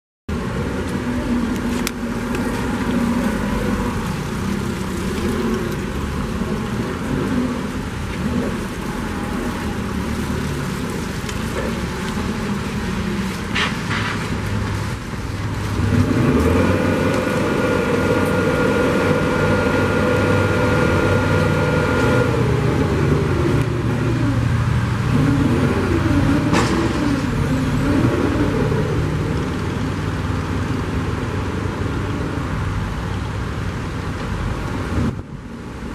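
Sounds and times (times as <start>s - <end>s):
hydraulics whining: 0.3s - 35.3s
forklift engine running: 0.3s - 35.8s.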